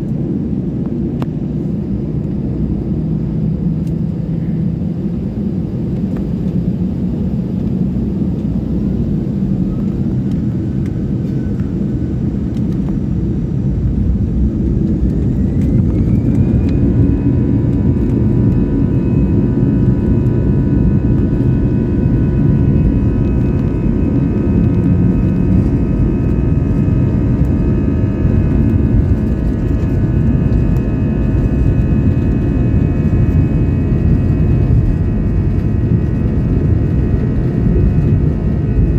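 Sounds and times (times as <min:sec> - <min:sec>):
airliner engines rumbling: 0:00.0 - 0:38.9
rising engine whine: 0:00.0 - 0:38.9.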